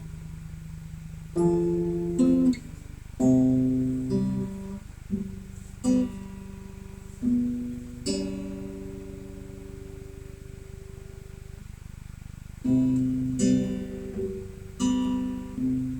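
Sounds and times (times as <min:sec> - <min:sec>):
acoustic guitar chords: 0:00.0 - 0:15.9
faint steady hum: 0:00.0 - 0:15.9.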